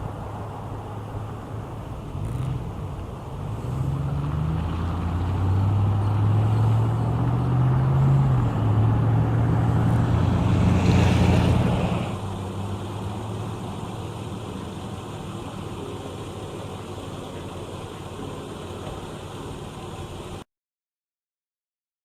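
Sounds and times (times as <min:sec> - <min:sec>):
vehicle engine running: 0:00.0 - 0:20.4.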